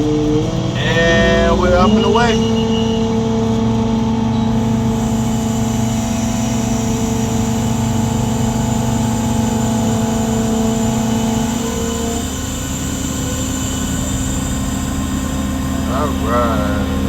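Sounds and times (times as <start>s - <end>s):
crane engine running: 0.0s - 17.0s
steady whine: 0.6s - 17.0s.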